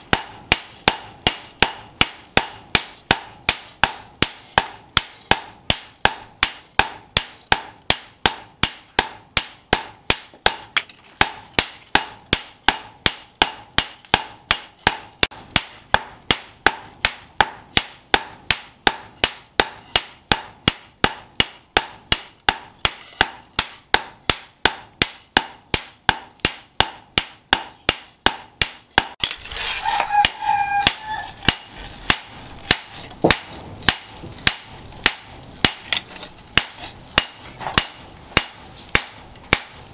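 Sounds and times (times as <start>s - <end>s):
hammer striking metal on anvil: 0.0s - 39.9s.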